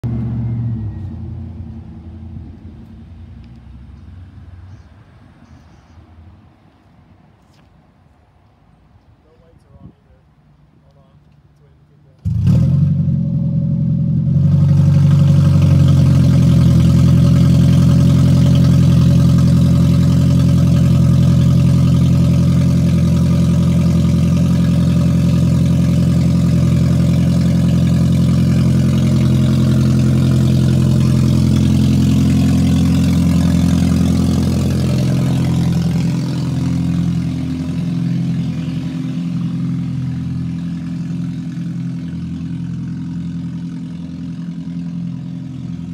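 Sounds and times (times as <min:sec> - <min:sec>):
car engine with loud exhaust drone: 0:00.0 - 0:07.7, 0:12.0 - 0:45.9.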